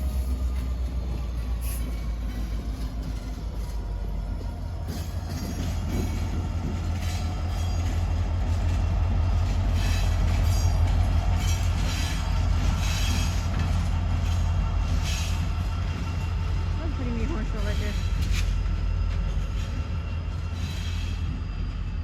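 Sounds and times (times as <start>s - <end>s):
train rumbling past: 0.0s - 22.0s
wheel and rail noise: 0.0s - 22.0s.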